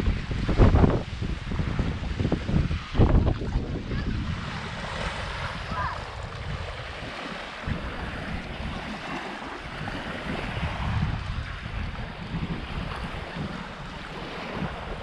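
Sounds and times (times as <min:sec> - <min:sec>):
waves washing onto beach: 0:00.0 - 0:15.0
wind rumbling on microphone: 0:00.0 - 0:15.0.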